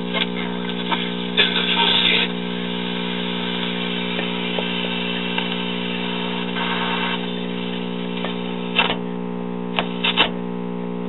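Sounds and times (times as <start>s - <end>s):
radio static with hum: 0.0s - 11.0s.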